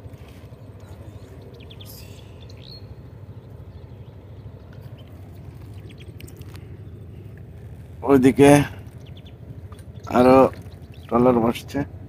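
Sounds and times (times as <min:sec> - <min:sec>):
low rumble of open water: 0:00.0 - 0:12.0
bird chirps: 0:00.5 - 0:11.2.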